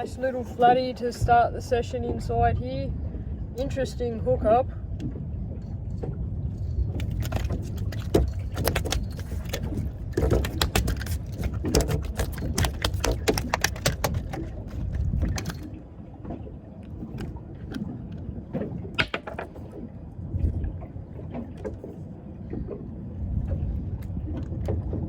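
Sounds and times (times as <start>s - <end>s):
low wind: 0.0s - 25.0s
water rumble: 0.0s - 25.0s.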